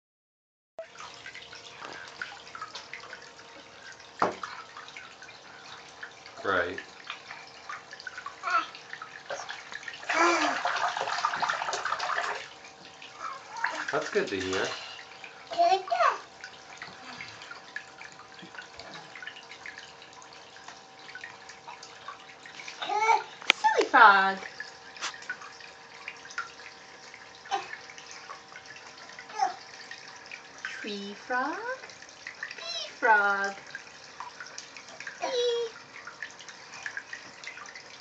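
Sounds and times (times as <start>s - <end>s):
faint steady hum: 0.8s - 38.0s
water trickling into cup: 0.8s - 38.0s.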